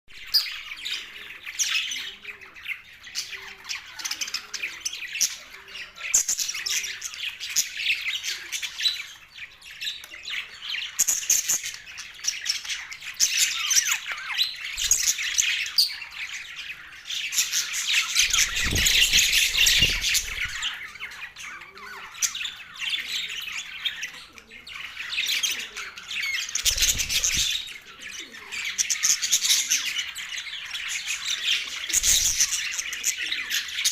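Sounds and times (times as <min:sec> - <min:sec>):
budgerigars chirping: 0:00.2 - 0:33.9.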